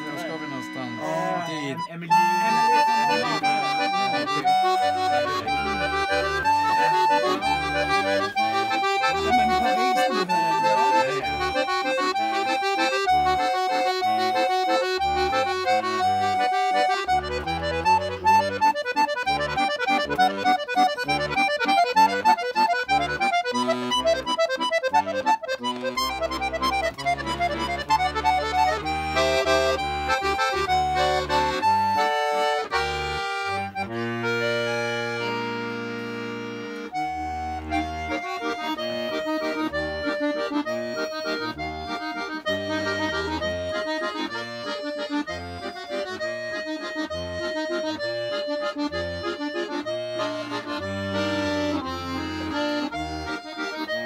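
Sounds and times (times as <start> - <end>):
button accordion playing: 0.0 - 54.0.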